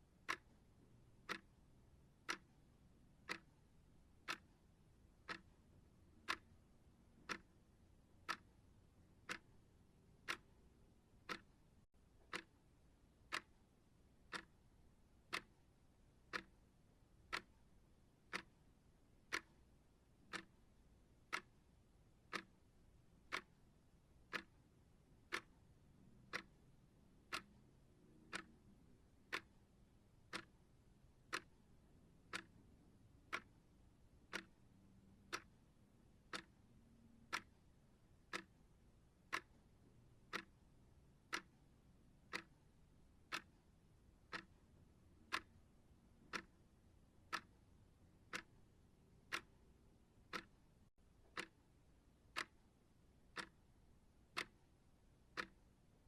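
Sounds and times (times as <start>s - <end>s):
clock ticking: 0.1s - 56.0s.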